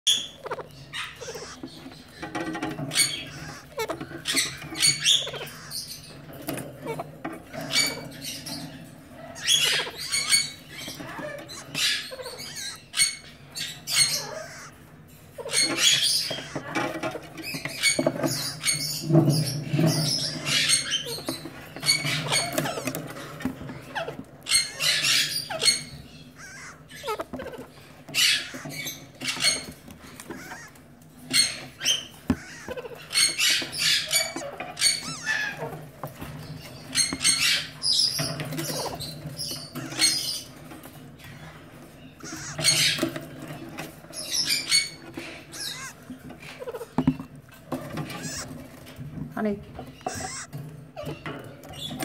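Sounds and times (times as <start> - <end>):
parakeet chick squeaking: 0.0 - 52.0.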